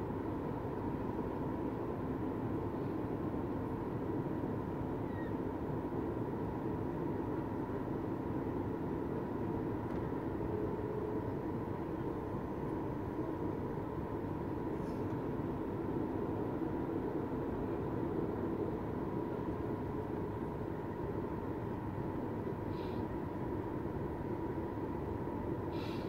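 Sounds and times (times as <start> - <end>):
airplane cabin engine noise: 0.0 - 26.0.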